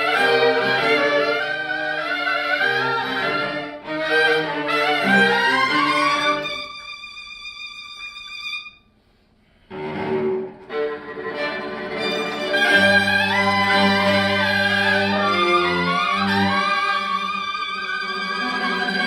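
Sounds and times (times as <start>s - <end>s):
string ensemble with traditional instruments: 0.0s - 8.8s, 9.6s - 19.0s.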